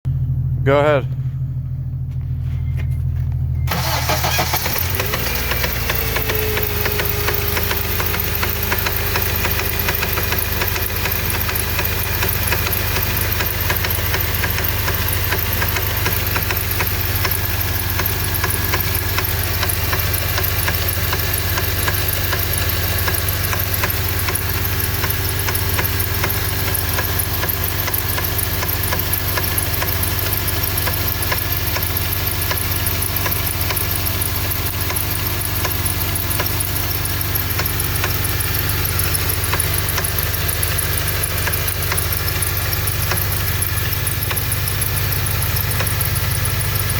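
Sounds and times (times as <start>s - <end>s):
car engine idling with knocking: 0.1s - 46.9s.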